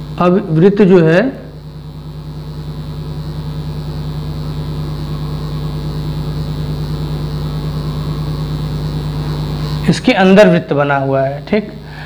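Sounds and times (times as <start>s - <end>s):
pulsing electrical hum: 0.0s - 12.0s.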